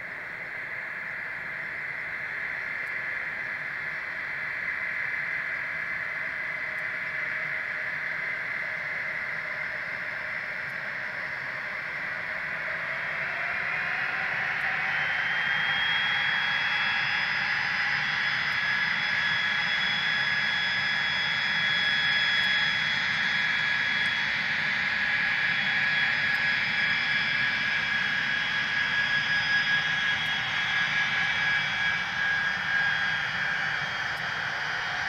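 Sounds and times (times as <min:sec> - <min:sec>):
jet engines whining: 0:00.0 - 0:35.0.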